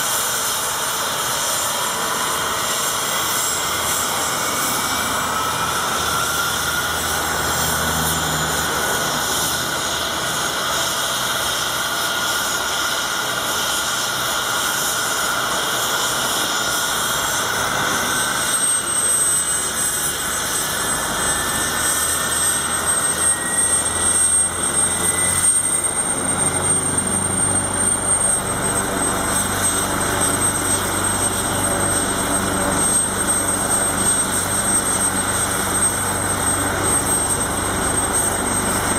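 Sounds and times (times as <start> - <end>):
helicopter rotor turning: 0.0 - 38.9
high turbine engine whine: 0.0 - 38.9.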